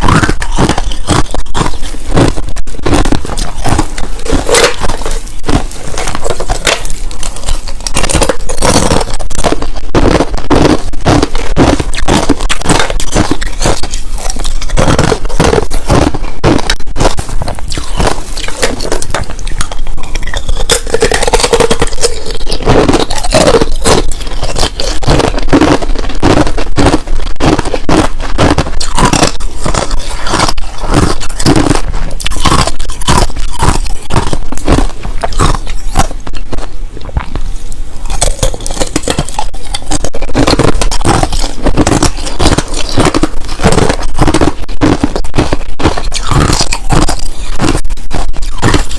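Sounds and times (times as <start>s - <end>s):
ice being chewed and crunched: 0.0s - 48.9s.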